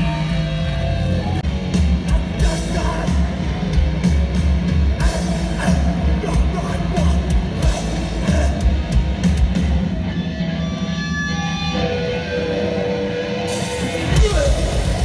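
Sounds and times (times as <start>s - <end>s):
bass guitar: 0.0s - 15.0s
distorted electric guitars: 0.0s - 15.0s.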